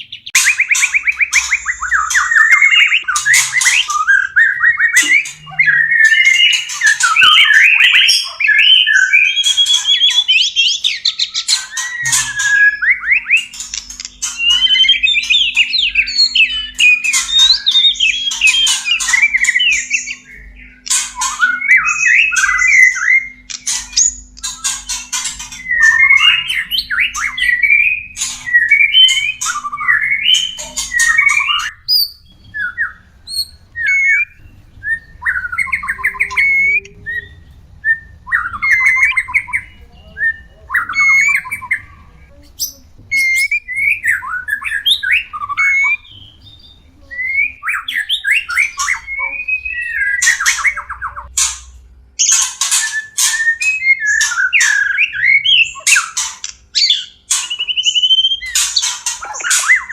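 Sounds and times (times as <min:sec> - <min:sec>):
bird song with whistles and trills: 0:00.0 - 0:59.9.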